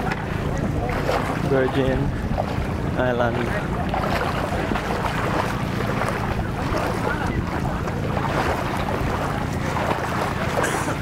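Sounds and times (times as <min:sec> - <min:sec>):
people talking: 0:00.0 - 0:02.2, 0:02.9 - 0:11.0
boat engine droning: 0:00.0 - 0:11.0
wind noise on microphone: 0:00.0 - 0:11.0.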